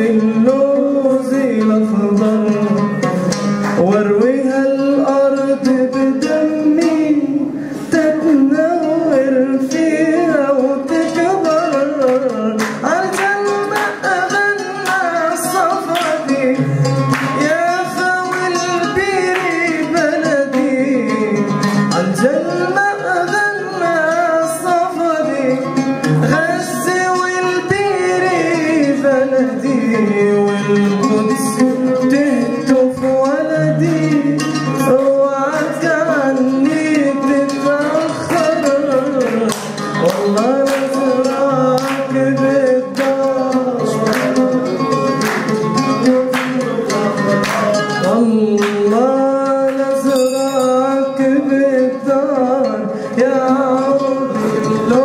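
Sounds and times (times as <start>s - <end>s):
man singing: 0.0s - 55.0s
plucked oud: 0.0s - 55.0s.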